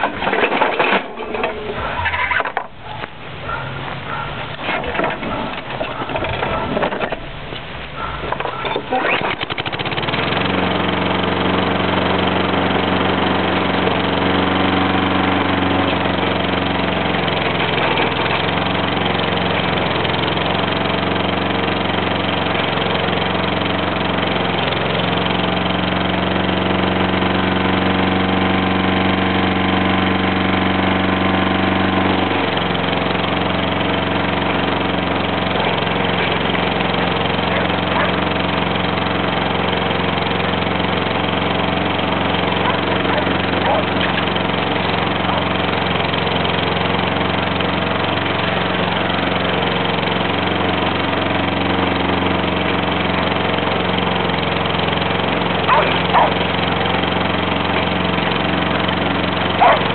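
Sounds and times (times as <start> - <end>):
lawn mower engine running: 0.0 - 59.9.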